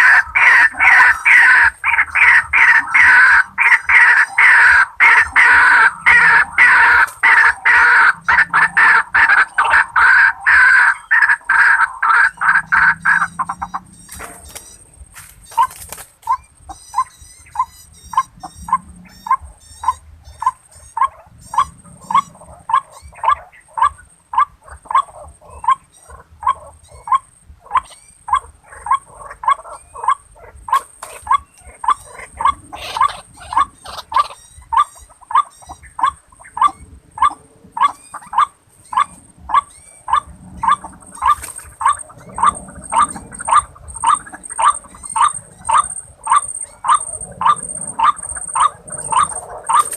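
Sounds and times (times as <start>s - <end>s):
bird calling harsh notes: 0.0s - 49.9s.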